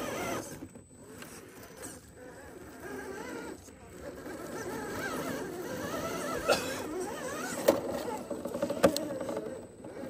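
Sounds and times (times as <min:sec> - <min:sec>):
electric motor and gears whining: 0:00.0 - 0:10.0.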